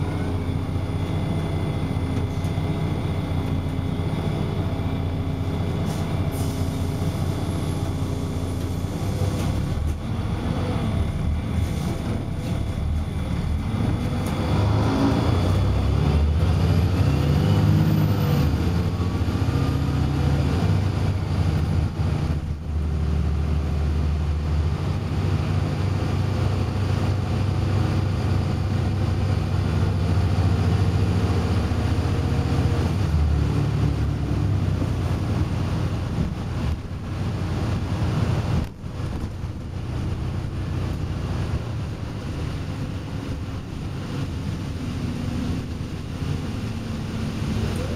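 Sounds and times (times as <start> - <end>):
bus diesel engine: 0.0 - 47.9.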